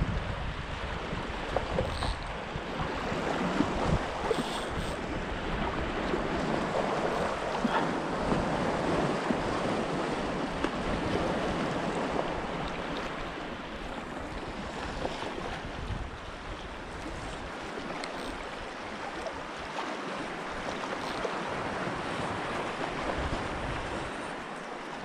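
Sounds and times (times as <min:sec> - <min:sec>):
wind buffeting microphone: 0:00.0 - 0:19.3, 0:20.4 - 0:25.0
small waves lapping: 0:00.0 - 0:25.0.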